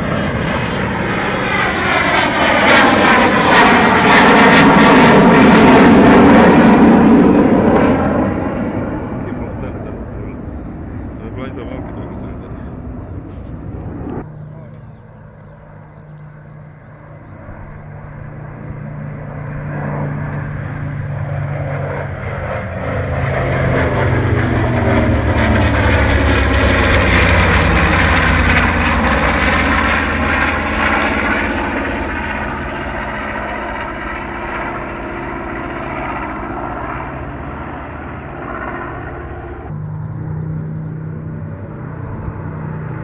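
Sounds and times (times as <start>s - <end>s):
propeller aircraft droning overhead: 0.0s - 43.0s.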